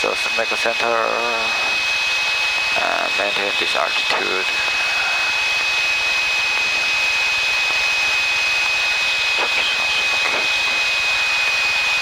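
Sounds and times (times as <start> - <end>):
aircraft engine and airflow hiss: 0.0 - 12.0
high-pitched whine: 0.0 - 12.0.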